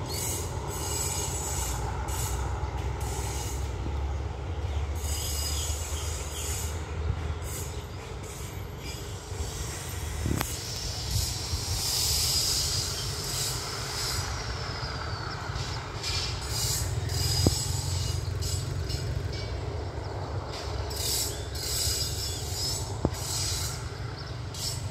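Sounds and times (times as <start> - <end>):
distant train rumble: 0.0 - 24.9
wheel noise hiss: 0.0 - 24.9.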